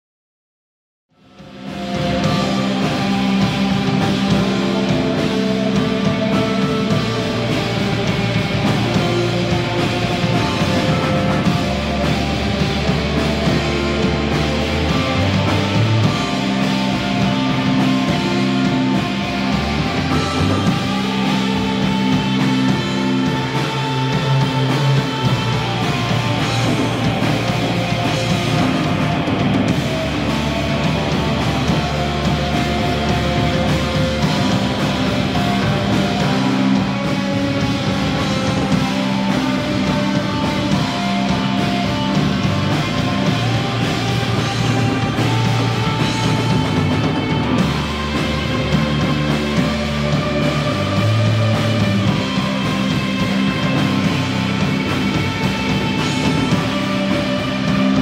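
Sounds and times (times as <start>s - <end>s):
drum kit: 1.2s - 58.0s
electric bass notes: 1.2s - 58.0s
live rock band playing: 1.2s - 58.0s.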